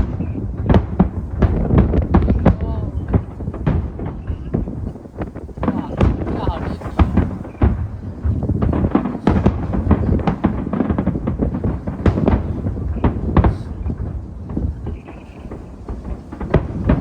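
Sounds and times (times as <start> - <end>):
fireworks bangs and booms: 0.0 - 17.0.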